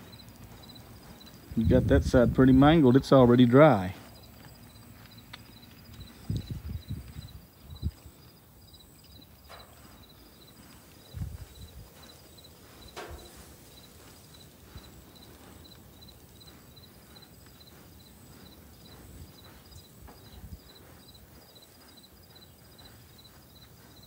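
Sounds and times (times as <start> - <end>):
insect chirping: 0.0 - 1.6, 4.0 - 24.0.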